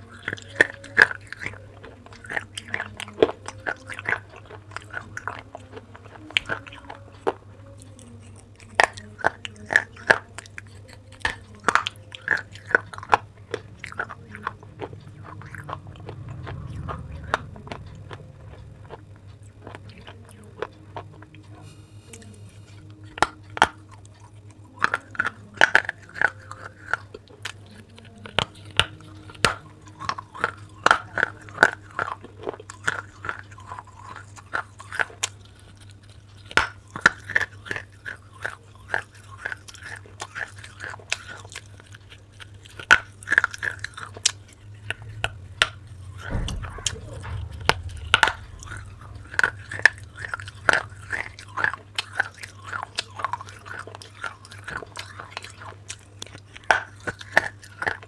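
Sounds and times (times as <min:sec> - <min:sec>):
crunchy chewing of clay pieces: 0:00.0 - 0:58.0
steady low hum: 0:00.0 - 0:58.0.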